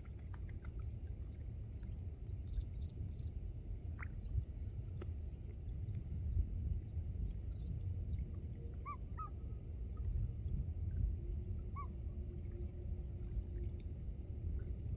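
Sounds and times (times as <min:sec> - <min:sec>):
constant low rumble: 0:00.0 - 0:14.9.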